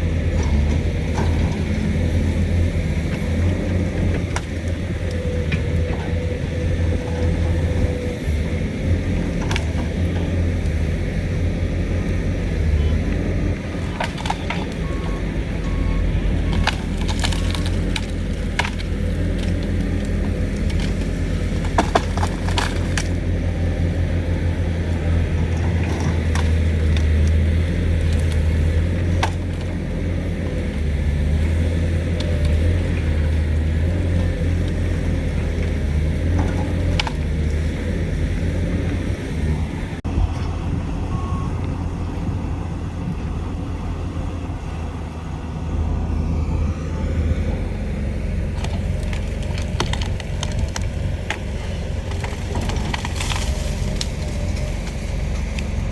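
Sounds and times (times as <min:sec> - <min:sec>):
excavator diesel engine droning: 0:00.0 - 0:55.9.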